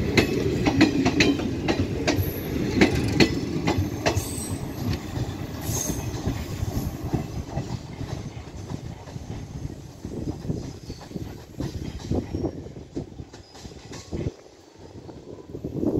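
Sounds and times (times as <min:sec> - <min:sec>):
train wheels clacking over rail joints: 0:00.0 - 0:14.5
train rumble: 0:00.0 - 0:15.9.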